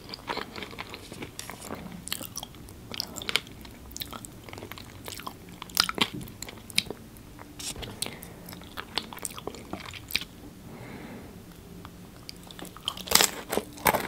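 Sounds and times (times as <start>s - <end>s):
chewing and crunching food: 0.0s - 10.4s, 11.5s - 14.0s.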